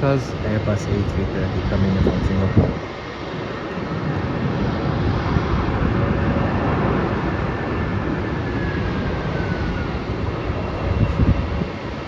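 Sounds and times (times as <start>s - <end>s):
jet engine roar: 0.0s - 12.0s
jet engine whine: 0.0s - 12.0s.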